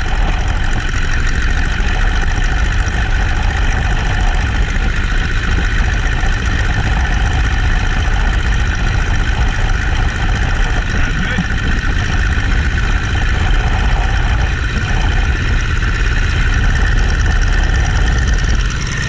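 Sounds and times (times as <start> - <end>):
biplane radial engine running: 0.0 - 19.0
rush of noise: 0.0 - 19.0.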